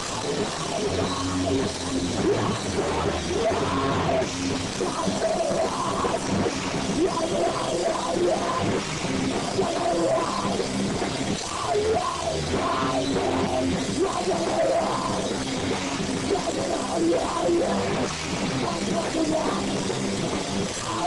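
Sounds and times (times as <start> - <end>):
electric guitars: 0.0 - 21.0.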